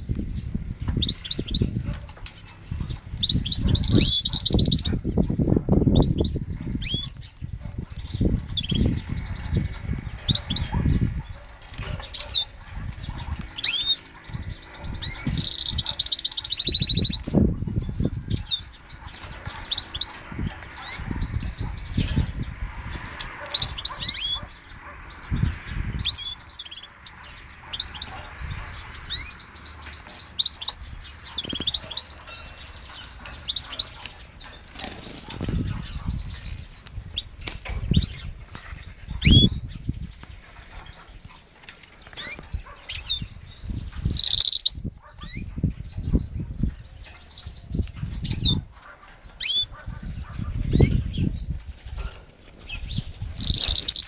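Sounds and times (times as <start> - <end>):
finch singing high chirps and trills: 0.0 - 54.0.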